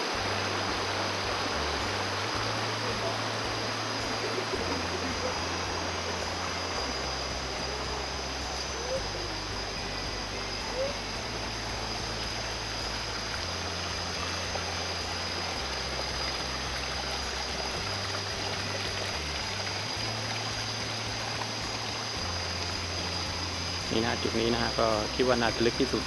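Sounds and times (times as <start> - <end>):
stream water rushing over rocks: 0.0 - 26.0.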